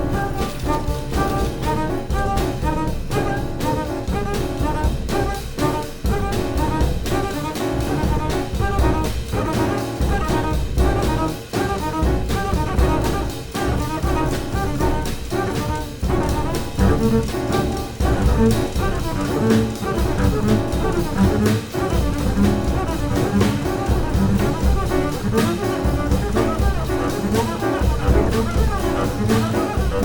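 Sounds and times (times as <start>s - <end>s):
cymbal and drum strokes: 0.0s - 30.0s
jazz piano trio playing: 0.0s - 30.0s.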